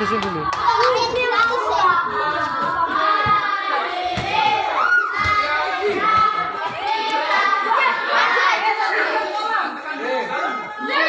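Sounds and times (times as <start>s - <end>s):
children talking and shouting: 0.0s - 11.0s.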